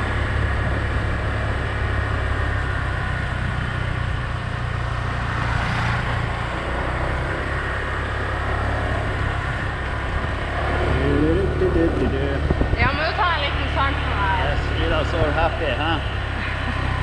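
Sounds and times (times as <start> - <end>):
motor scooter engine: 0.0 - 17.0
wind and road noise: 0.0 - 17.0.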